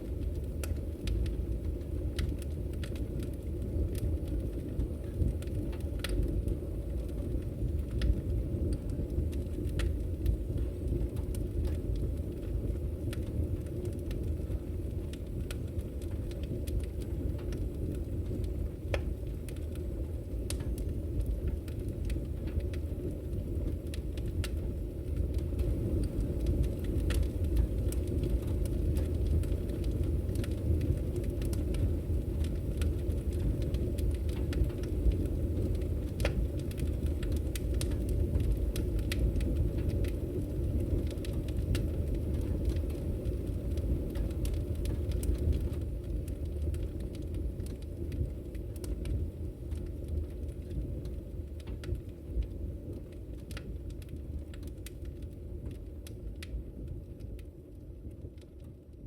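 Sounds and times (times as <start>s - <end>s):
burning wood crackling: 0.0s - 59.0s
fire flames rumbling: 0.0s - 59.0s.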